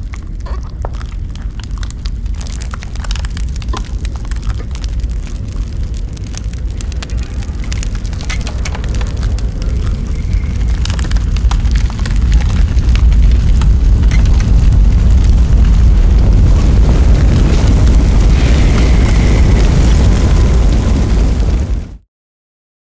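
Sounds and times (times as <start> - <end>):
fire rumbling and crackling: 0.0 - 22.0.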